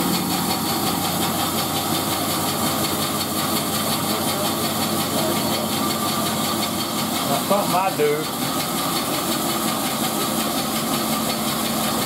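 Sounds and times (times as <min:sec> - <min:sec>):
band saw motor humming: 0:00.0 - 0:12.0.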